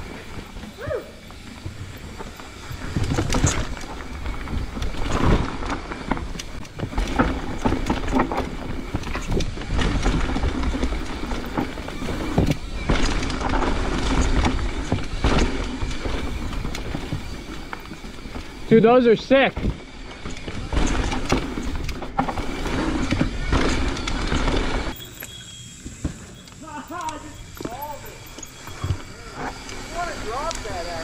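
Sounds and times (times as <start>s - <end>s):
bike rattling with sharp knocks: 0.0s - 31.0s
bike tyres crunching over dirt: 0.0s - 31.0s.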